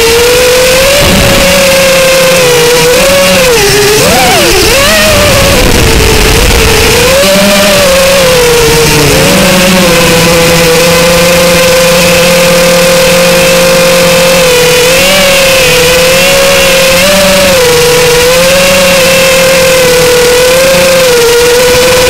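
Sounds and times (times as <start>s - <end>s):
quadcopter propellers whining: 0.0s - 22.0s.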